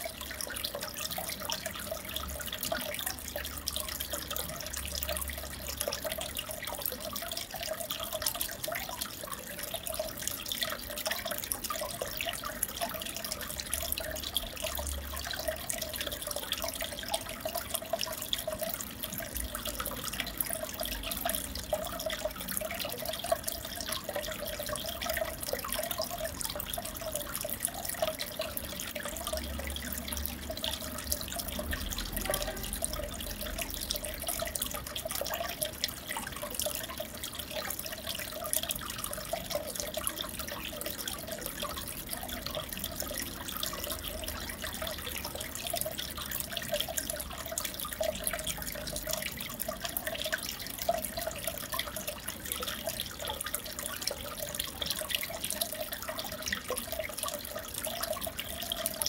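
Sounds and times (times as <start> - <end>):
aquarium water trickling and bubbling: 0.0 - 59.0
small drips and splashes: 0.0 - 59.0.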